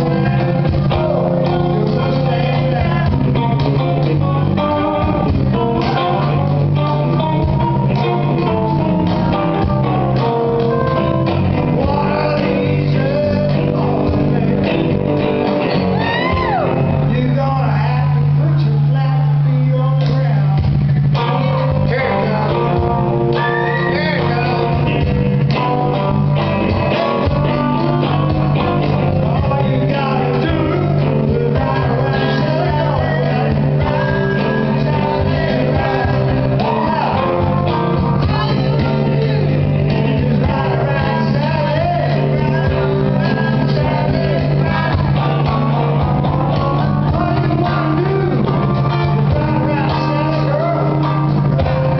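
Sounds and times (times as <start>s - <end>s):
acoustic guitar: 0.0s - 51.9s
electric bass: 0.0s - 51.9s
person singing: 0.0s - 51.9s.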